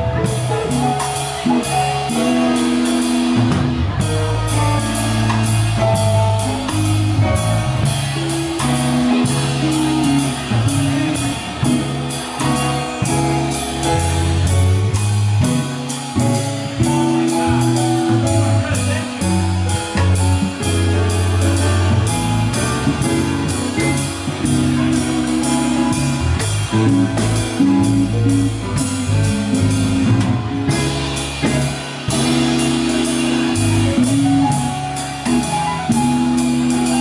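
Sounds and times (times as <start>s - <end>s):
drum kit: 0.0s - 37.0s
electric guitar: 0.0s - 37.0s
keyboard: 0.0s - 37.0s.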